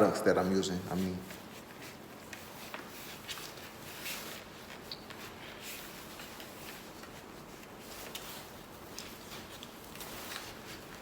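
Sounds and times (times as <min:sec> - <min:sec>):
cloth rustling: 0:00.9 - 0:11.0.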